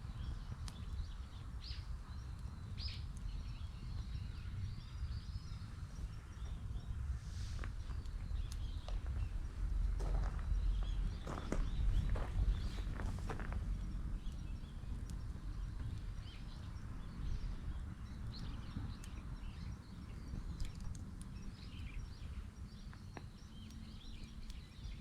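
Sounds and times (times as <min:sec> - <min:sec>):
small birds chirping: 0:00.0 - 0:25.0
wood fire crackling: 0:00.0 - 0:25.0.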